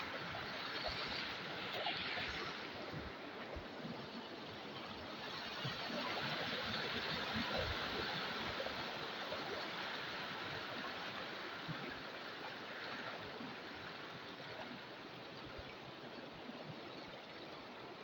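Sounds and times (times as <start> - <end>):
river water rushing and splashing: 0.0 - 18.0.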